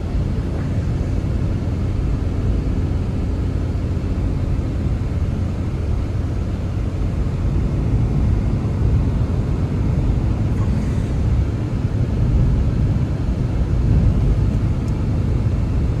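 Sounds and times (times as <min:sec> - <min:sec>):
blizzard wind blowing hard: 0:00.0 - 0:16.0.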